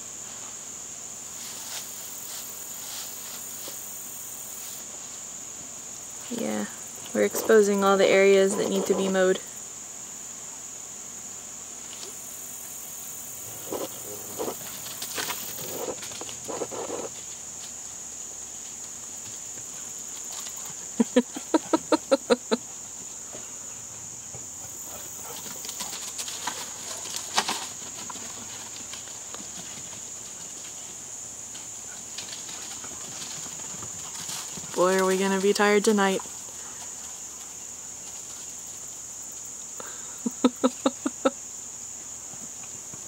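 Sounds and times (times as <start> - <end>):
crickets droning in grass: 0.0 - 43.0.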